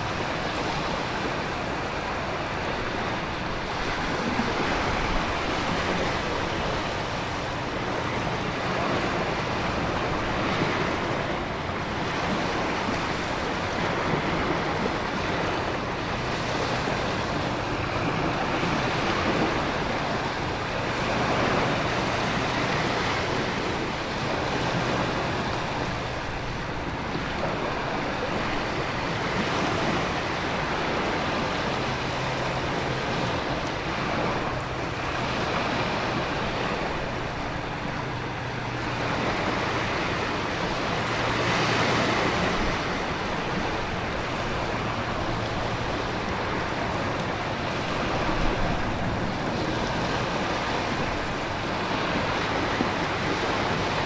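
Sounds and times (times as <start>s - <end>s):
ocean surf breaking: 0.0s - 54.0s
wind: 0.0s - 54.0s.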